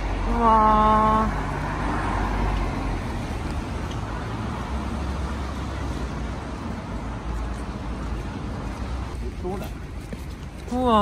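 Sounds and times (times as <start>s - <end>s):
traffic on wet street: 0.0s - 11.0s.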